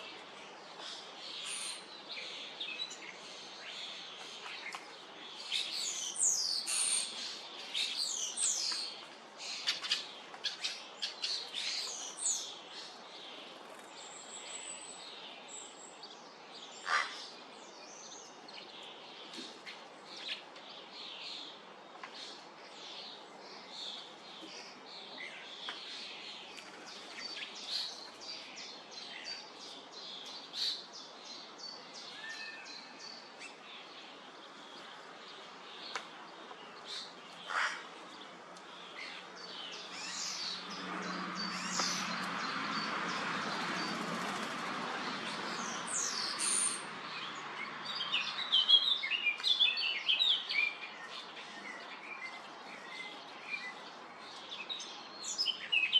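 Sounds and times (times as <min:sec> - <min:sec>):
starlings chirping and calling: 0:00.0 - 0:55.9.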